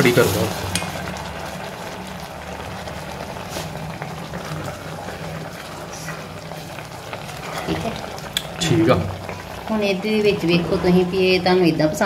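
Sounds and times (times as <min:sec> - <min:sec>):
syrup bubbling in a pot: 0:00.0 - 0:12.0.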